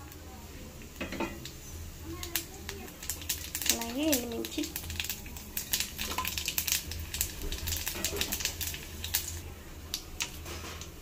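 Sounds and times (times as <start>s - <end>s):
seeds spluttering in hot oil: 0.0s - 11.0s.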